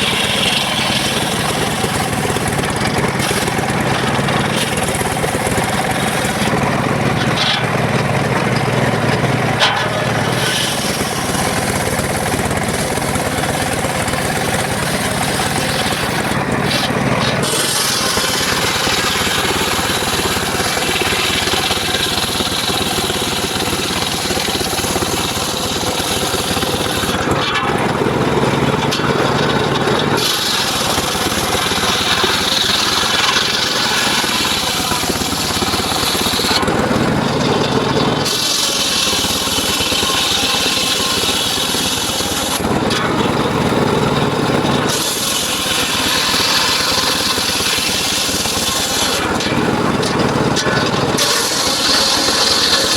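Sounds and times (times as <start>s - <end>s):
circular saw cutting wood: 0.0s - 52.9s.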